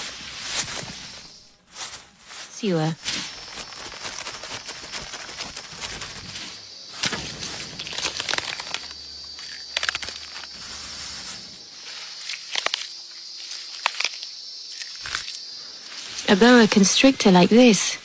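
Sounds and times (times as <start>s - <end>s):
cicadas buzzing: 0.0s - 18.0s
leaves and branches rustling: 0.0s - 18.0s.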